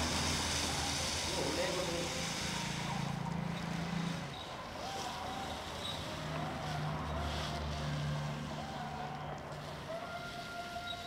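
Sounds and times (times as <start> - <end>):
peanuts pouring rattling hiss: 0.0 - 11.0.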